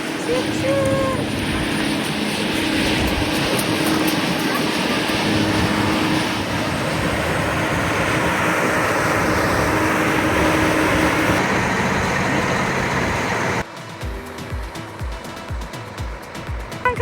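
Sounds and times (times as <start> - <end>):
cog railway train hissing: 0.0 - 16.9
low engine hum: 0.0 - 17.0.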